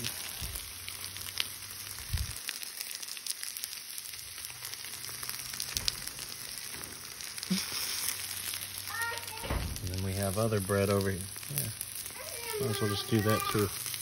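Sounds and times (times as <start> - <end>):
food sizzling on a griddle: 0.0 - 14.0.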